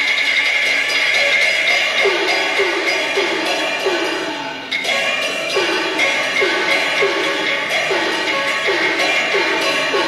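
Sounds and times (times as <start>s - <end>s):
quick percussion strikes: 0.0s - 10.0s.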